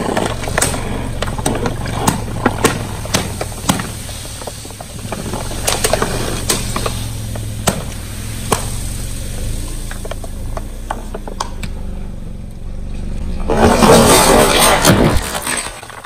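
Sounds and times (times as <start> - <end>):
plastic bottles crackling: 0.0 - 11.7, 13.5 - 16.0
car engine humming: 0.0 - 16.0.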